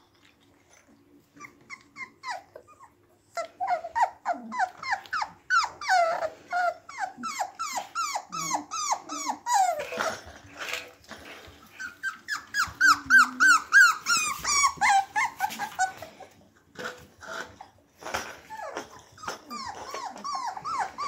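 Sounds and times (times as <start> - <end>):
puppies whining and yelping: 0.7 - 16.6, 17.2 - 21.0.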